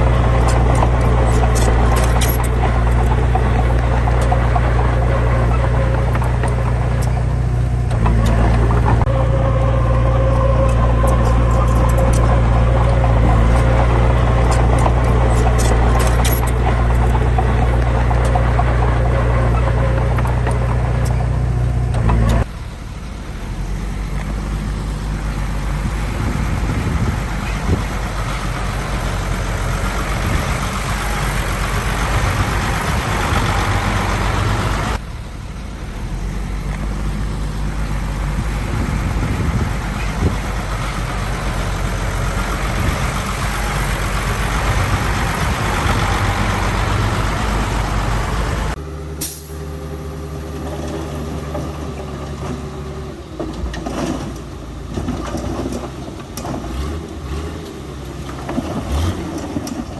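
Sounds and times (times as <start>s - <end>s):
heavy diesel engine humming: 0.0s - 59.9s
heavy diesel machinery running: 0.0s - 59.9s.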